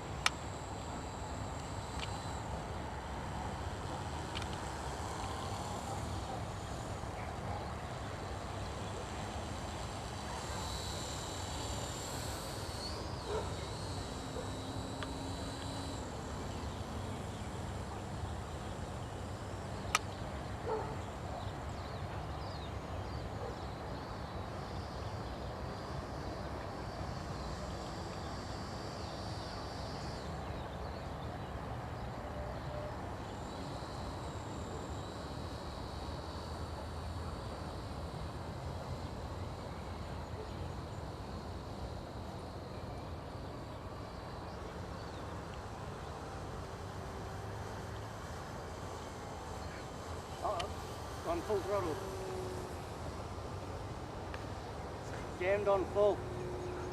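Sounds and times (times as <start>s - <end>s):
distant electric motor whine: 0.0s - 56.9s.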